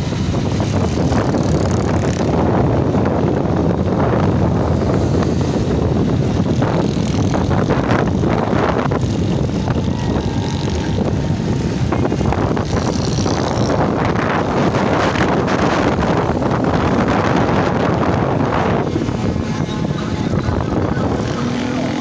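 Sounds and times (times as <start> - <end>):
road traffic: 0.0 - 22.0
wind rushing over microphone: 0.0 - 22.0.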